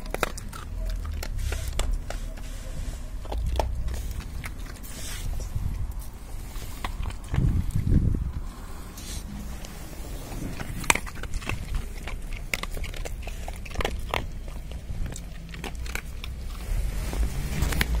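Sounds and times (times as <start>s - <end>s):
dogs crunching dry kibble: 0.0s - 18.0s.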